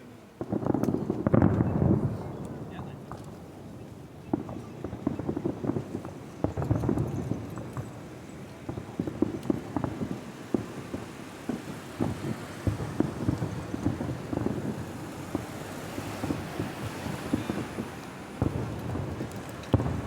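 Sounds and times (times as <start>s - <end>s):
fireworks booming: 0.4s - 20.0s.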